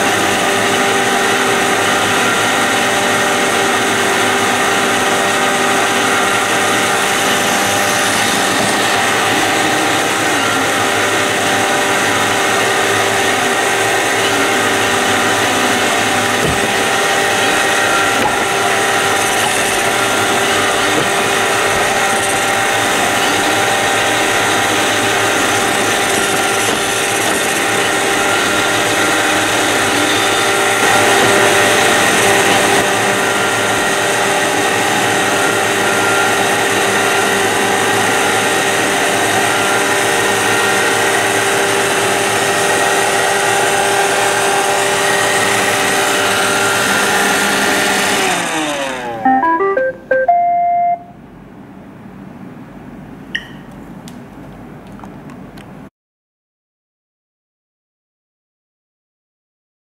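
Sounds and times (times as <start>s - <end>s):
robot vacuum motor whine: 0.0s - 49.2s.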